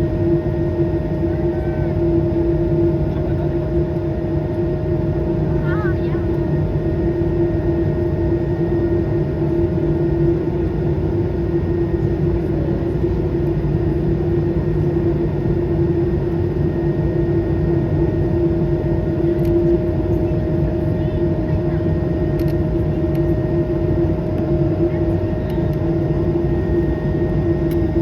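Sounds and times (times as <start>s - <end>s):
jet engines in airplane cabin: 0.0s - 28.0s
steady hums: 0.0s - 28.0s.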